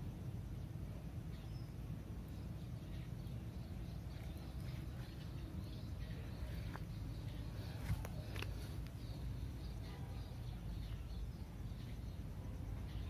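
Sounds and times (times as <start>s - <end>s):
faint bird chirps: 0.0s - 13.0s
steady low rumble: 0.0s - 13.0s.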